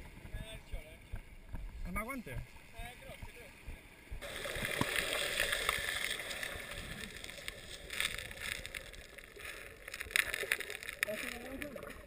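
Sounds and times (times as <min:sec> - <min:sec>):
crackles and surges of waves: 0:00.0 - 0:12.0
muffled underwater water rushing: 0:00.0 - 0:12.0.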